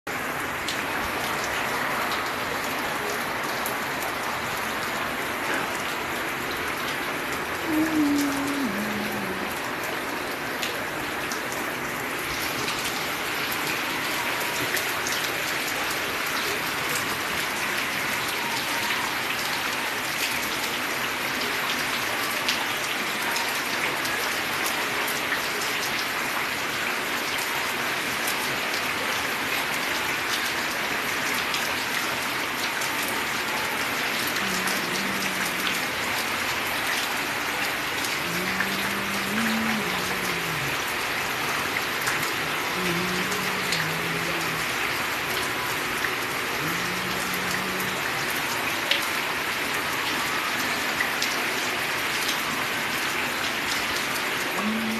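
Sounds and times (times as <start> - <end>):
steady rain: 0.1 - 54.9.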